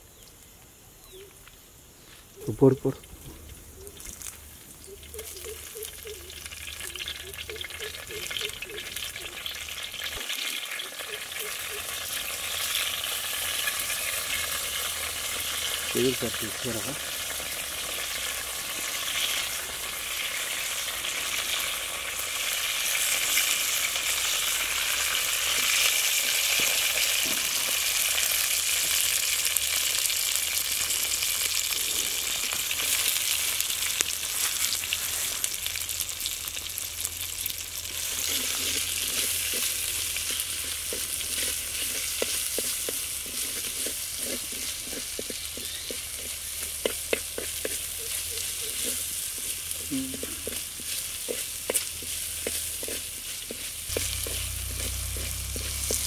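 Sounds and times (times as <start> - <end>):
oil sizzling in a pot: 4.1 - 56.0.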